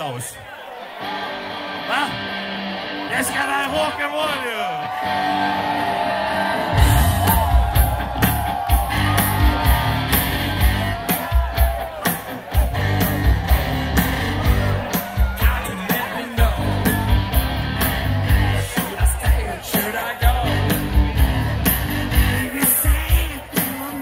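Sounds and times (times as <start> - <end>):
crowd cheering and whooping: 0.0 - 22.7
live rock and roll band: 1.0 - 24.0.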